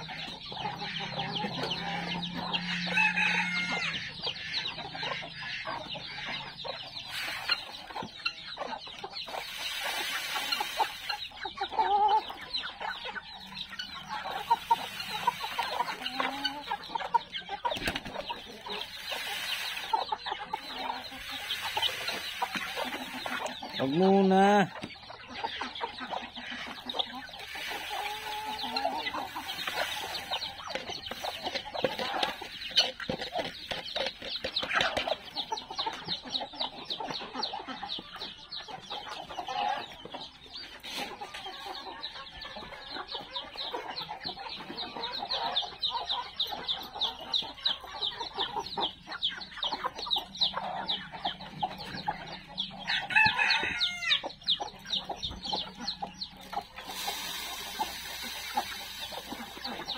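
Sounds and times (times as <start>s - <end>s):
chicks peeping: 0.0s - 59.9s
hens clucking: 0.0s - 59.9s.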